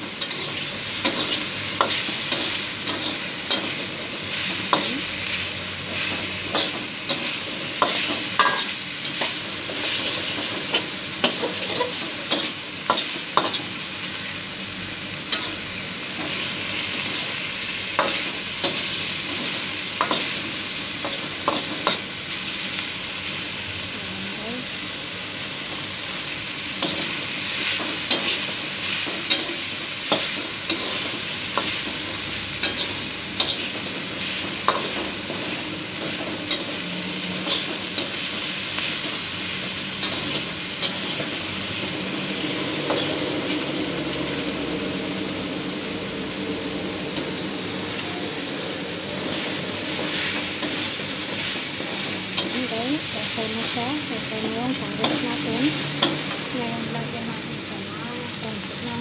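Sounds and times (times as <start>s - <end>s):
food sizzling in wok: 0.0s - 59.0s.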